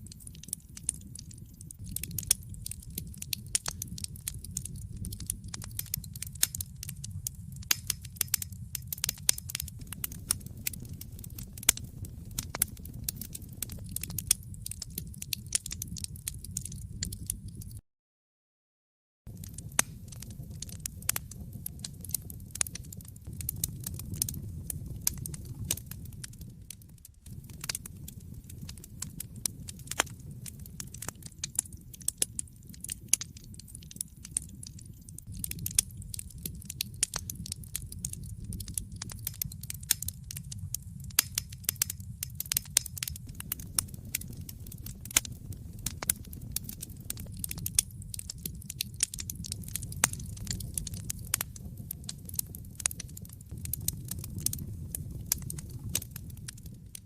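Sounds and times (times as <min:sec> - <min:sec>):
low rumble of flames: 0:00.0 - 0:17.8, 0:19.3 - 0:57.0
wood fire crackling and popping: 0:00.0 - 0:17.8, 0:19.3 - 0:57.0.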